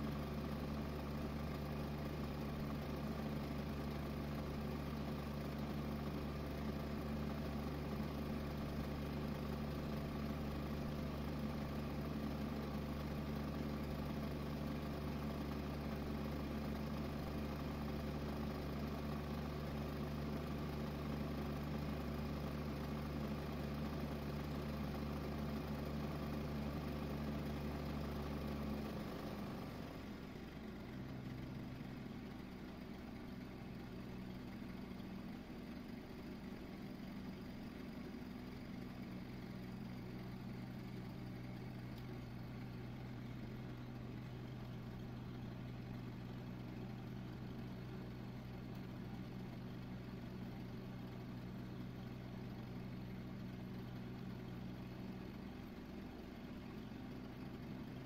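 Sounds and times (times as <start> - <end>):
low engine-like hum: 0.0 - 58.0.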